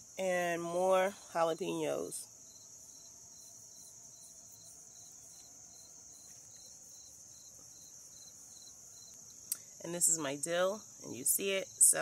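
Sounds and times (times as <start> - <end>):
crickets trilling: 0.0 - 12.0
lower cricket chirp: 0.0 - 12.0.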